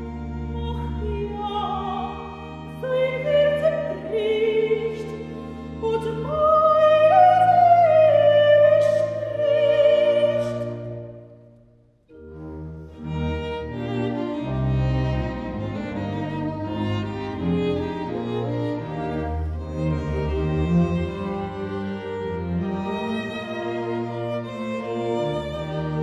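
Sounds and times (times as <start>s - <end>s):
soprano singing: 0.0s - 11.5s, 12.1s - 26.0s
organ cello and bass chords: 0.0s - 26.0s.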